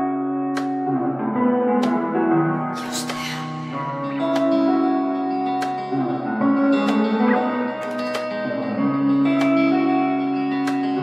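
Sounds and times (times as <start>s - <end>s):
instrumental music with held chords: 0.0s - 11.0s.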